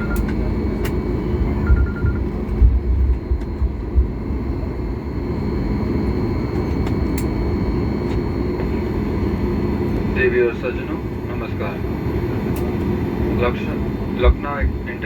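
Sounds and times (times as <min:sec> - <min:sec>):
airplane cabin hum and rumble: 0:00.0 - 0:15.0.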